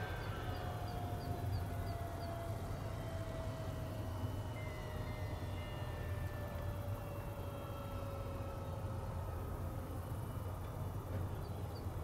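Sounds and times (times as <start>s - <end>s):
helicopter turbine whine: 0.0s - 12.0s
low steady hum: 0.0s - 12.0s.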